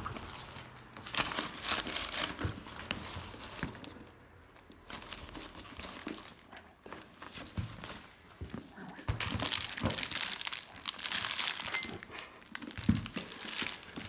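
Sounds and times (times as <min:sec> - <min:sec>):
plastic wrap and paper crinkling: 0:00.0 - 0:14.0.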